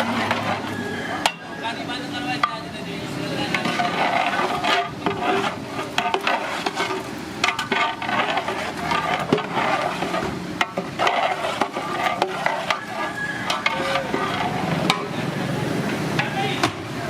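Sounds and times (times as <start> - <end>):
busy background din: 0.0 - 17.0
metal utensils scraping pots: 0.0 - 17.0.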